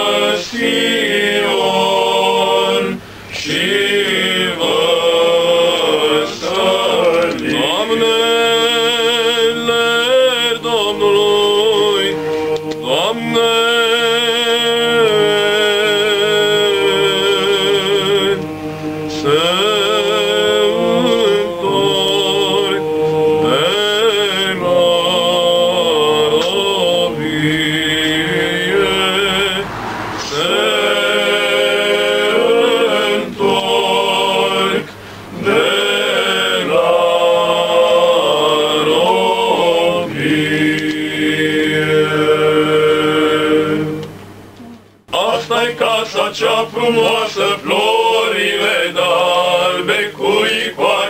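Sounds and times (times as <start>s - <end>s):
male choir singing a cappella: 0.0s - 44.2s, 45.1s - 51.0s.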